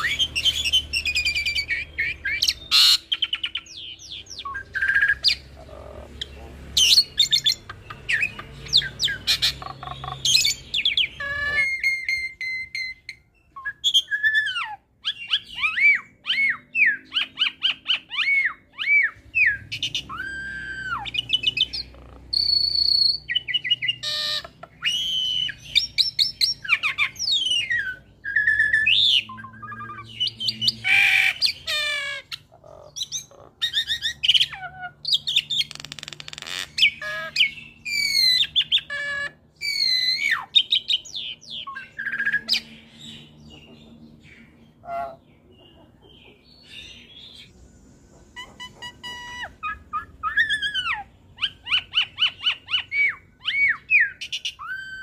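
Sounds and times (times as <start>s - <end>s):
bird singing chattering song: 0.0s - 55.0s.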